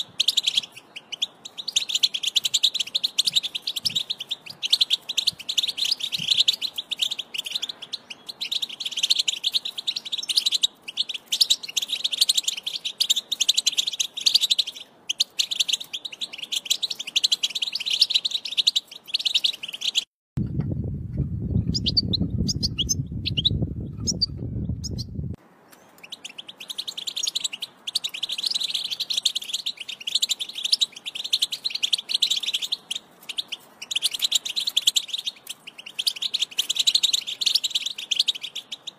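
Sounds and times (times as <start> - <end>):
goldfinch twittering song: 0.0 - 20.1, 21.5 - 38.9.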